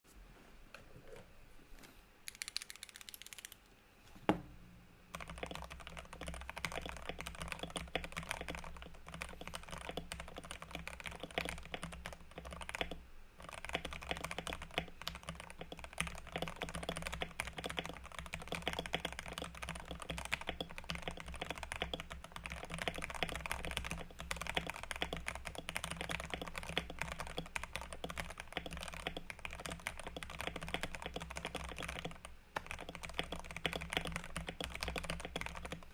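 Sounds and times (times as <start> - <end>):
mechanical keyboard typing: 2.3 - 3.6, 5.1 - 35.9.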